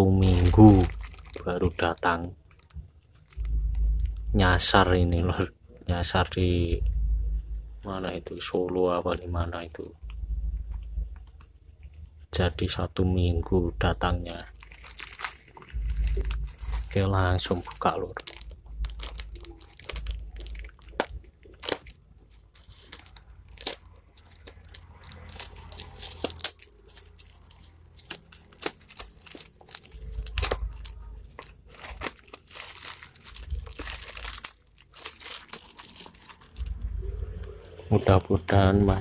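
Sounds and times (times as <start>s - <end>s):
plastic crinkling and tearing: 0.0s - 6.2s, 7.8s - 10.0s, 10.7s - 39.0s.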